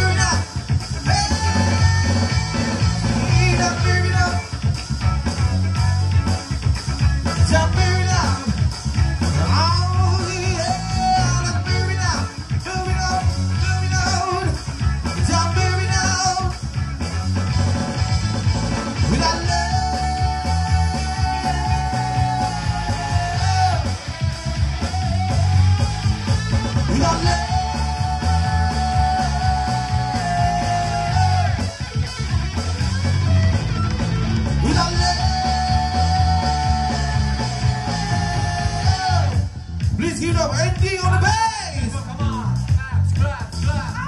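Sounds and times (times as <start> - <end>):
live pop-rock band: 0.0 - 44.0.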